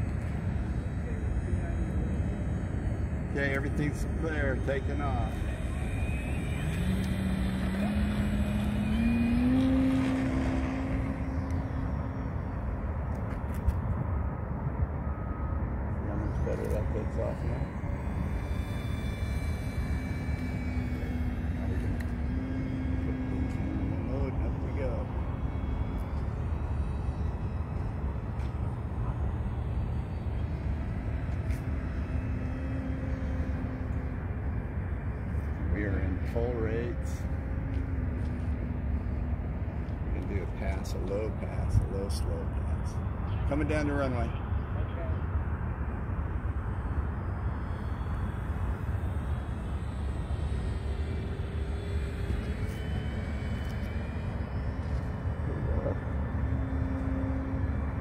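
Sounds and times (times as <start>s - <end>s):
distant model plane motor droning: 0.0s - 58.0s.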